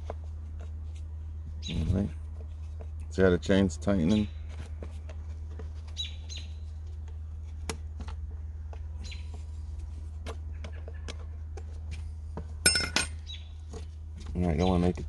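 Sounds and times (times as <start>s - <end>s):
faint birds chirping: 0.6s - 7.5s, 8.3s - 12.2s, 13.2s - 15.0s.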